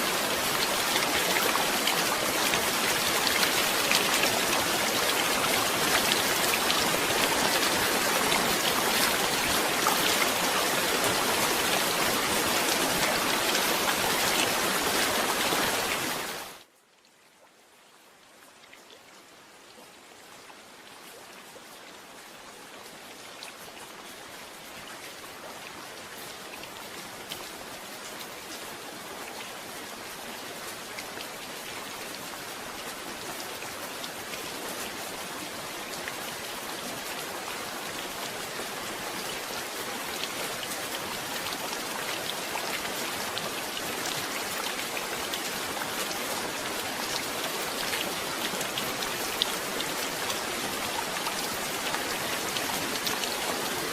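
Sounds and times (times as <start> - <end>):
rain drops pattering: 0.0 - 53.9.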